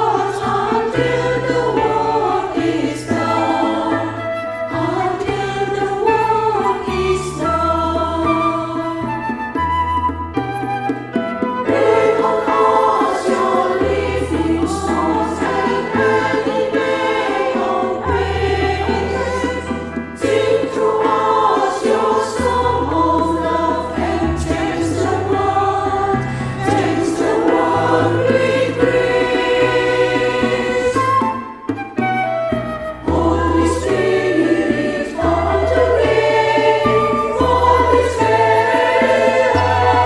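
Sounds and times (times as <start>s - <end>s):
women's choir singing: 0.0s - 9.4s, 11.6s - 31.5s, 33.0s - 40.0s
instrumental accompaniment: 0.0s - 40.0s.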